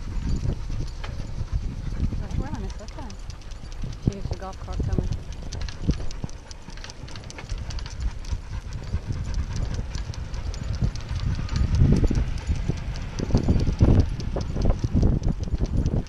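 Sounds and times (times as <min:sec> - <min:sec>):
camera rumble and rubbing: 0:00.0 - 0:16.0.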